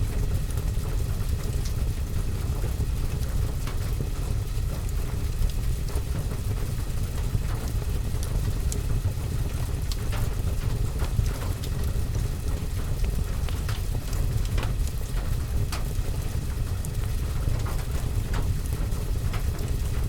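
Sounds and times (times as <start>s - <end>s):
steady rain: 0.0s - 20.0s
fireplace fire crackling: 0.2s - 20.0s.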